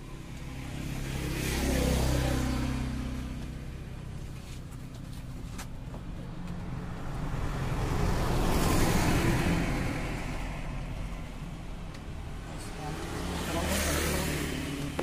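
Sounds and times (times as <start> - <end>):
vehicle passing by: 0.0 - 4.6, 6.3 - 15.0.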